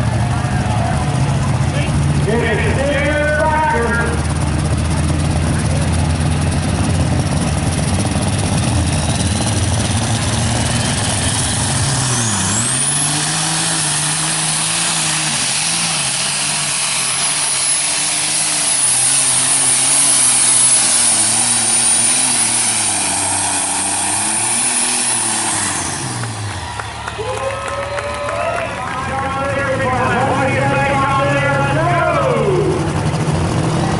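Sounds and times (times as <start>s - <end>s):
diesel engine running hard: 0.0s - 33.9s.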